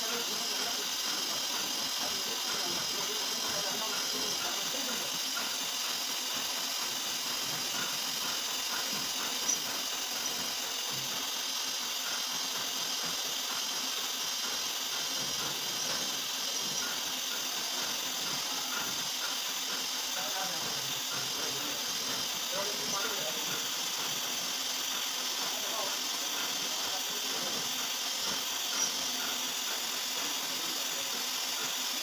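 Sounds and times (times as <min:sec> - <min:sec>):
machine spindle hissing: 0:00.0 - 0:32.0.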